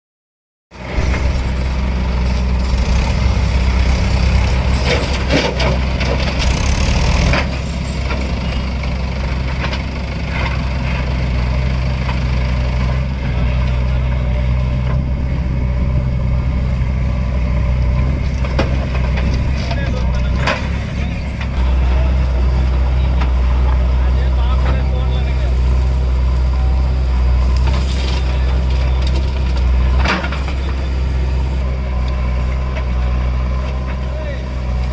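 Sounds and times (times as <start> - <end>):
diesel engine running: 0.7 - 34.9.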